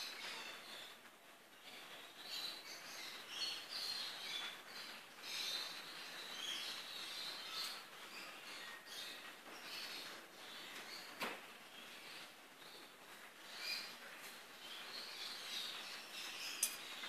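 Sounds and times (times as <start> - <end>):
birds chirping and chattering: 0.0 - 17.0
faint steady hiss: 0.0 - 17.0.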